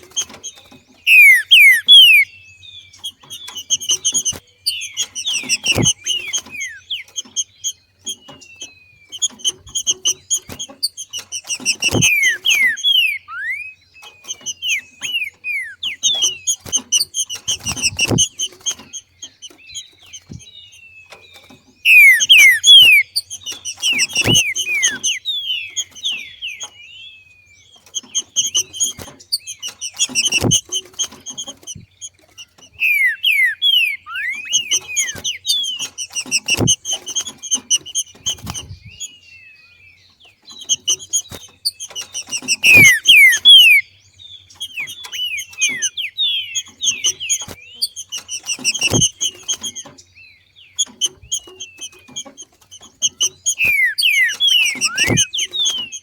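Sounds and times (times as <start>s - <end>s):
bird whistling falling notes: 0.0s - 2.3s, 3.0s - 20.5s, 21.1s - 26.8s, 27.9s - 39.1s, 40.6s - 43.9s, 44.5s - 50.0s, 50.8s - 56.0s.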